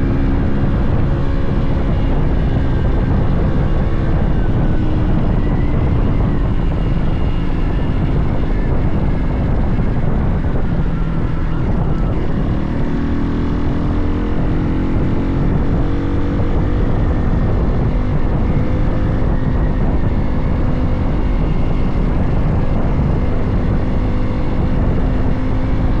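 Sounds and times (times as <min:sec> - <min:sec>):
low wind rumble on microphone: 0:00.0 - 0:26.0
motorcycle engine running: 0:00.0 - 0:26.0.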